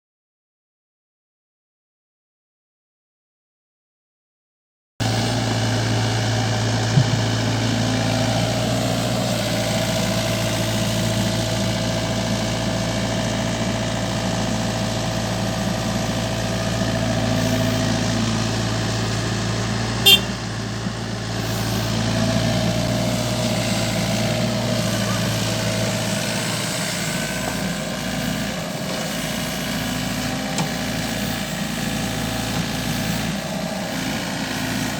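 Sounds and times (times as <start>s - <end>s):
diesel engines running at low revs: 5.0s - 34.9s.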